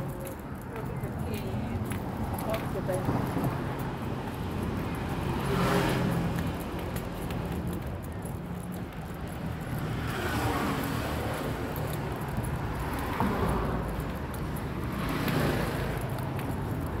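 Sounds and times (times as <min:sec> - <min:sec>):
cars passing: 0:00.0 - 0:17.0
low traffic rumble: 0:00.0 - 0:17.0.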